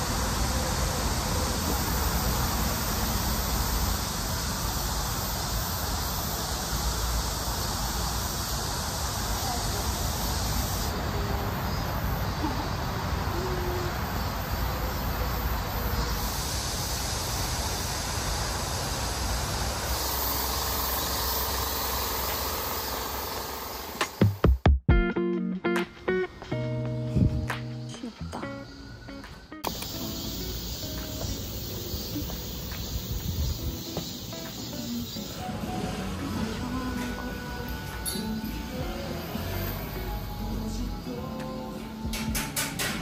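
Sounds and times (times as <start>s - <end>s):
even hiss: 0.0s - 24.5s, 29.6s - 43.0s.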